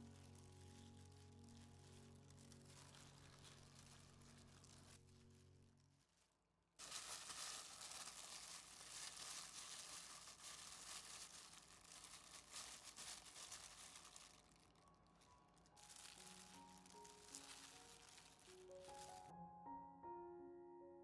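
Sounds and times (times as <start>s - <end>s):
dry coconut mixture crunching: 0.0s - 6.2s, 6.8s - 19.3s
plastic glove crinkling: 0.0s - 19.3s.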